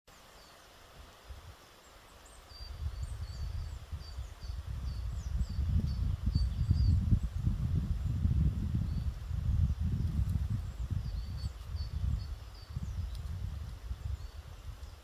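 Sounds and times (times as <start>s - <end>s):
songbird singing: 0.1s - 15.0s.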